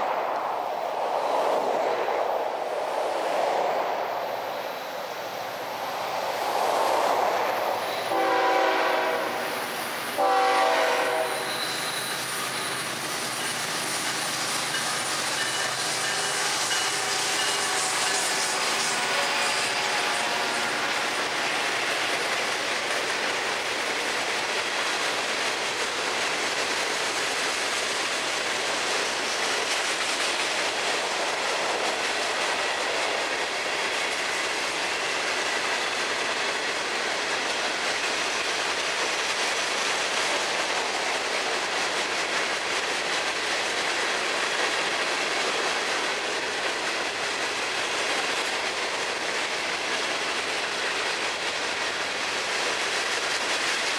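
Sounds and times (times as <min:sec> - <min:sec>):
freight train wheels rumbling on rails: 0:00.0 - 0:53.9.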